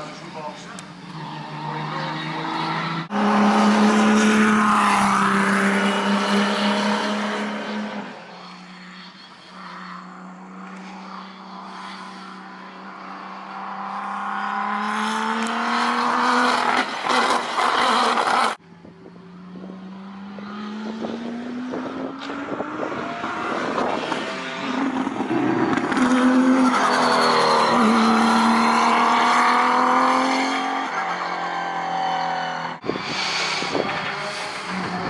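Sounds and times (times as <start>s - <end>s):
racing car engine at speed: 0.0s - 35.0s.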